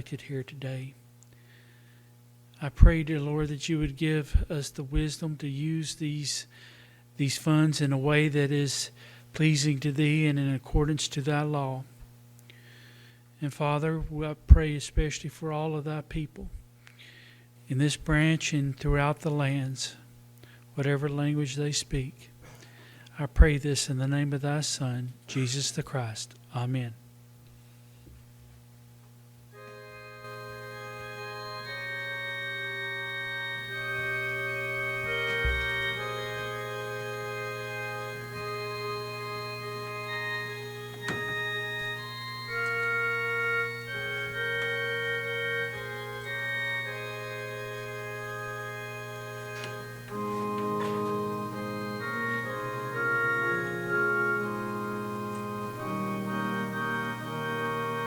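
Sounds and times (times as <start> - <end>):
organ playing slow chords: 0.0 - 25.7, 29.2 - 58.0
steady low hum: 0.0 - 58.0.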